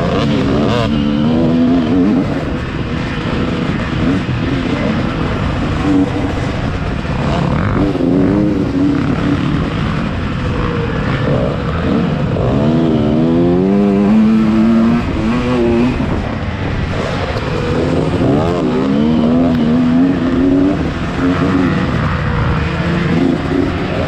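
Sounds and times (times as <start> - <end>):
dirt bike engine revving: 0.0 - 24.0
steady low rumble: 0.0 - 24.0.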